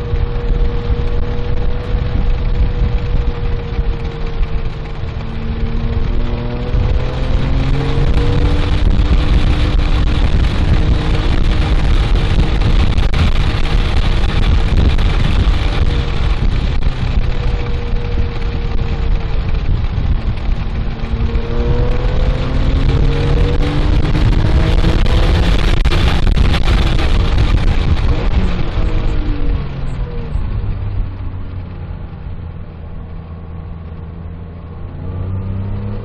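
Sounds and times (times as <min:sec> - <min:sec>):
car engine accelerating hard: 0:00.0 - 0:36.0
wind and road noise: 0:00.0 - 0:36.0.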